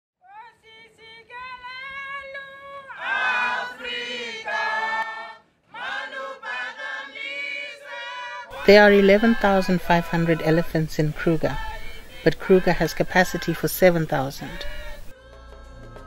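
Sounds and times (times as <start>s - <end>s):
women singing in harmony: 0.3s - 16.0s.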